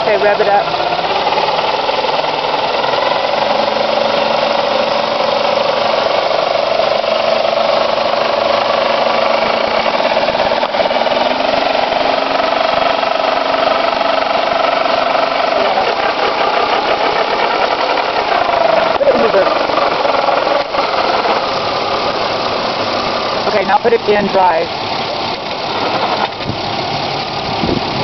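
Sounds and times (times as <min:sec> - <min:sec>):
car engine at raised revs: 0:00.0 - 0:28.0.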